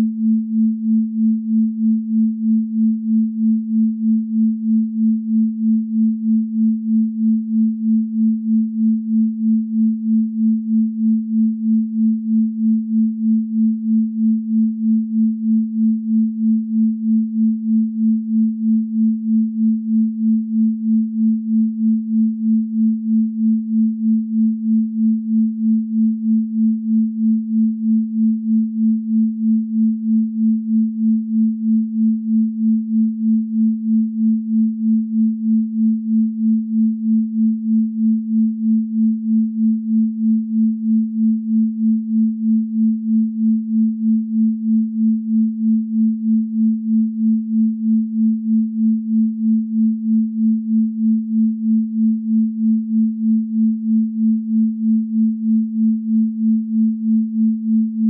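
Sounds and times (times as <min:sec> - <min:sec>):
pulsing electronic sine tone: 0:00.0 - 0:58.0.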